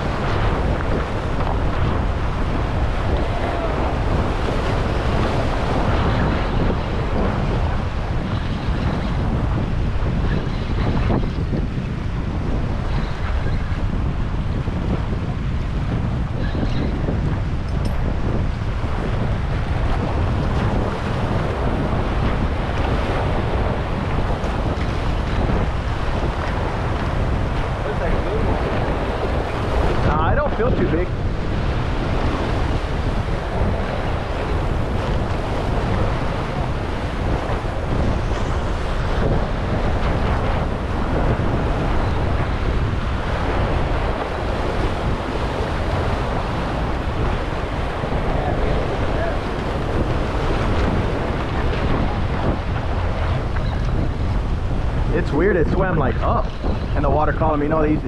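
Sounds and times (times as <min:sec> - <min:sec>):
waves washing against rocks: 0:00.0 - 0:58.0
wind buffeting microphone: 0:00.0 - 0:58.0.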